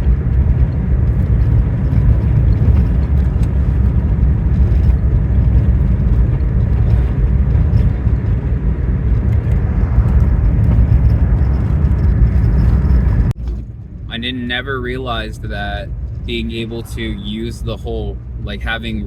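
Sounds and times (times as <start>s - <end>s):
car interior road and engine noise: 0.0s - 19.0s.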